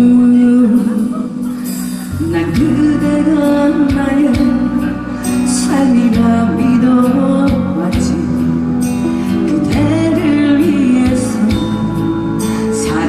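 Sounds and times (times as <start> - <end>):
backing track melody: 0.0 - 13.0
person singing: 0.0 - 13.0
steady bass: 0.0 - 13.0.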